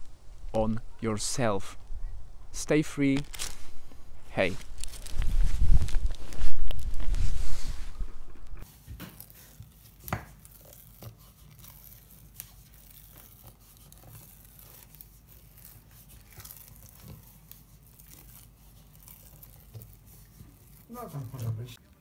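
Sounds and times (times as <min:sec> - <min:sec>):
hands kneading sticky dough: 0:04.3 - 0:22.0.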